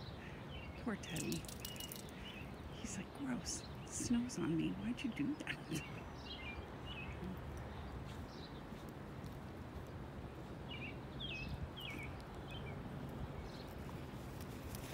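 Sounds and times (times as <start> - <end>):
bird chirping: 0.0 - 8.9, 10.4 - 14.0.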